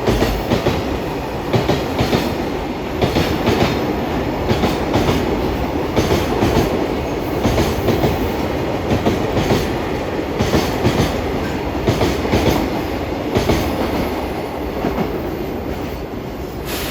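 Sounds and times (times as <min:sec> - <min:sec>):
train rumble: 0:00.0 - 0:16.9.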